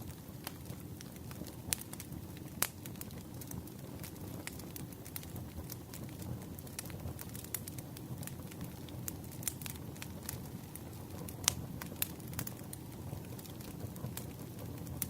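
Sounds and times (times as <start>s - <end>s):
campfire burning and crackling: 0.0s - 15.0s.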